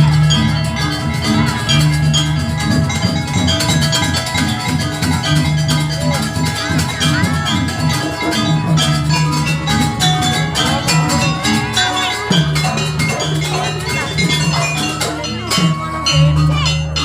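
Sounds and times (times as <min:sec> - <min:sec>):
drums playing: 0:00.0 - 0:17.0
gong-chime percussion: 0:00.0 - 0:17.0.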